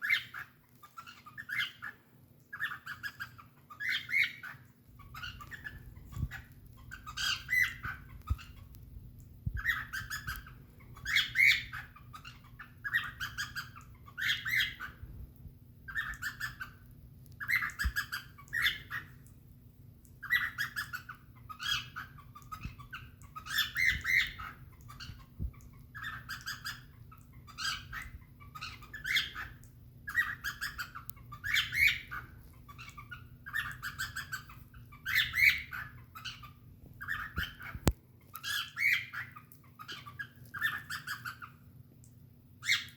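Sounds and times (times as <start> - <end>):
cockatiel rippling calls: 0.0 - 8.8, 9.4 - 15.1, 15.8 - 19.3, 20.2 - 41.6, 42.6 - 42.9.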